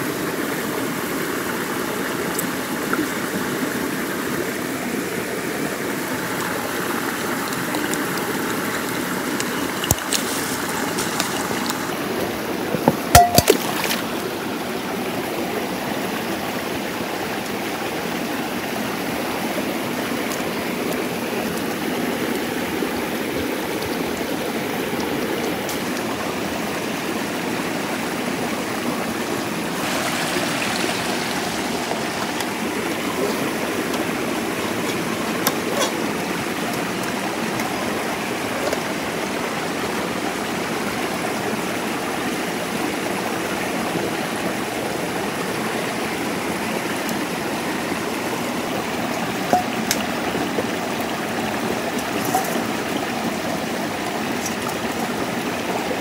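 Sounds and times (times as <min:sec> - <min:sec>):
rocky stream flowing: 0:00.0 - 0:56.0.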